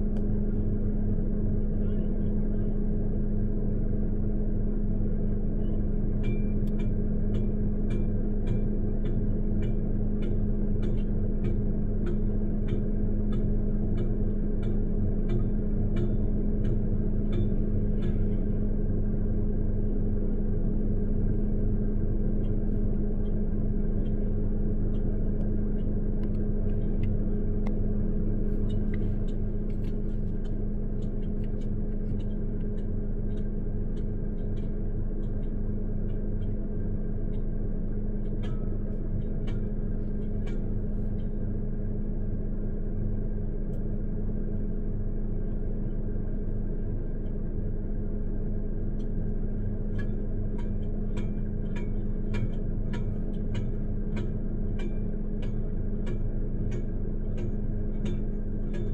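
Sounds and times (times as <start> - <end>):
vehicle engine idling: 0.0 - 58.9.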